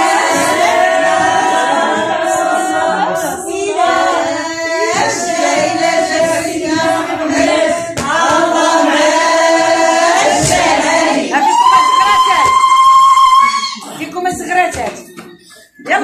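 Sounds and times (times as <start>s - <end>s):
women singing a chant: 0.0s - 14.9s.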